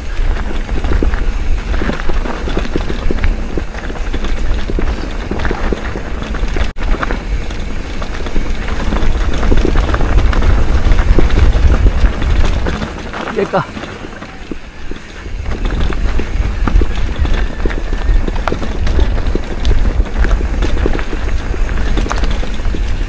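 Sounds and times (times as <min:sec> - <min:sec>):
mountain bike rattling on rocks: 0:00.0 - 0:23.0
wind buffeting microphone: 0:00.0 - 0:23.0.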